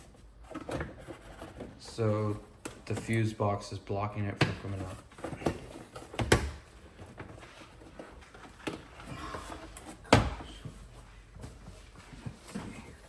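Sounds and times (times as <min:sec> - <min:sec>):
plastic parts knocking and clunking: 0:00.2 - 0:03.3, 0:04.3 - 0:13.0.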